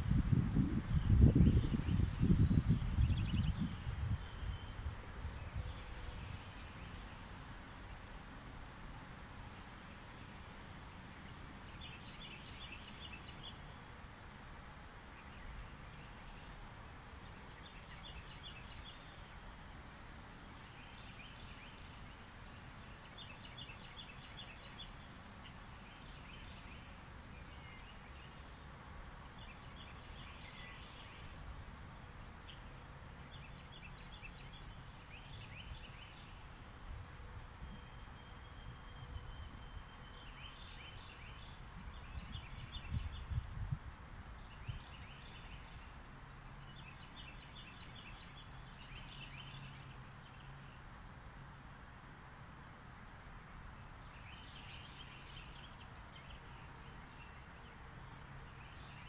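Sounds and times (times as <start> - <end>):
faint low background noise: 0.0 - 59.0.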